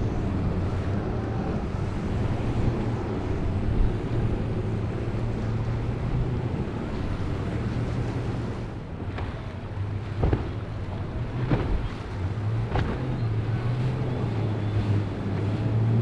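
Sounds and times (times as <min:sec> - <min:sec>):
outboard motors droning: 0:00.0 - 0:16.0
water rushing and surf: 0:00.0 - 0:16.0
wind buffeting microphone: 0:00.0 - 0:16.0.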